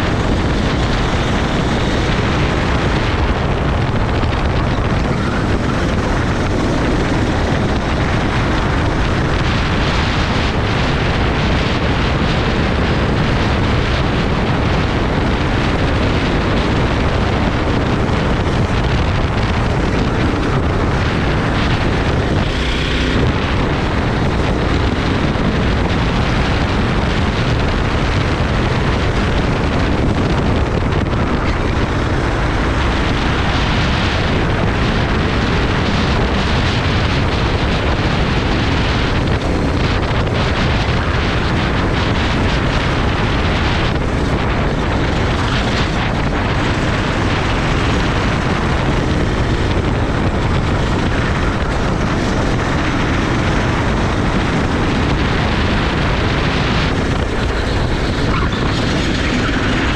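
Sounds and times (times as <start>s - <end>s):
go-kart engine running hard: 0.0s - 59.9s
wind buffeting microphone: 0.0s - 59.9s.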